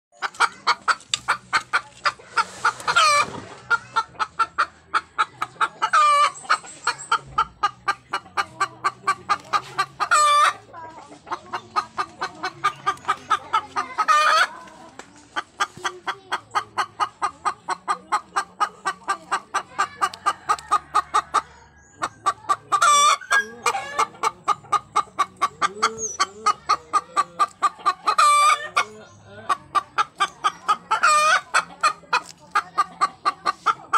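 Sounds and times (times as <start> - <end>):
chickens clucking: 0.1 - 33.9.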